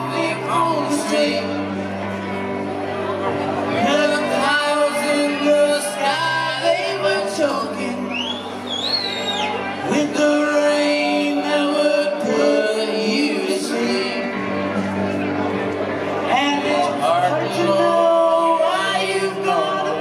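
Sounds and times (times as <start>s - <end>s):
person singing: 0.0s - 2.4s, 3.6s - 8.7s, 9.6s - 15.1s, 16.2s - 20.0s
electric guitar: 0.0s - 20.0s.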